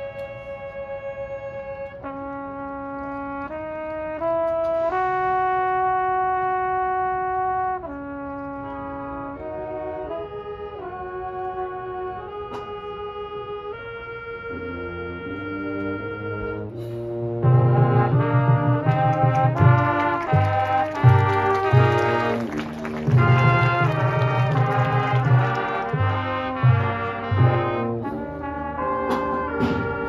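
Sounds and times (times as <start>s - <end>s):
lower brass: 0.0s - 30.0s
marching band brass playing: 0.0s - 30.0s.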